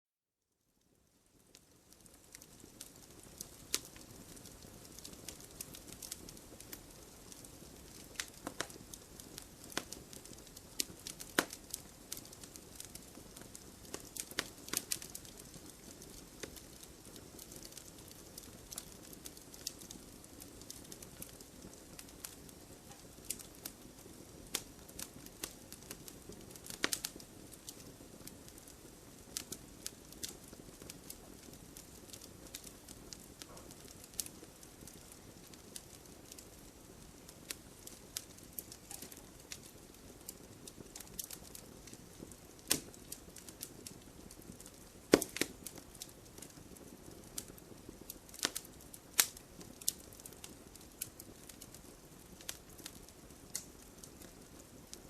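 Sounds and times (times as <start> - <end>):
logs crackling and popping: 1.3 - 55.0
fire hissing: 2.0 - 51.8.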